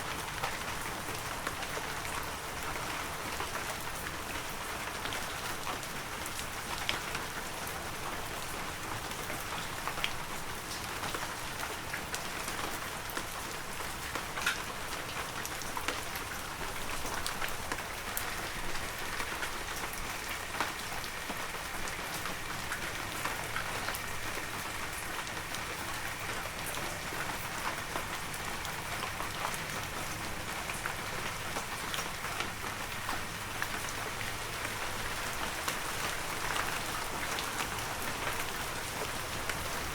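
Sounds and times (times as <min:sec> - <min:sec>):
heavy rain in forest: 0:00.0 - 0:39.9
raindrops ticking close by: 0:00.0 - 0:39.9.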